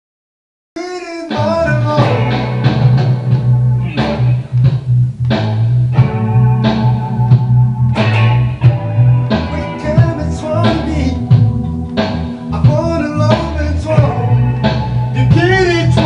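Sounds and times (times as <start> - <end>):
rock music with singing: 0.8 - 16.0.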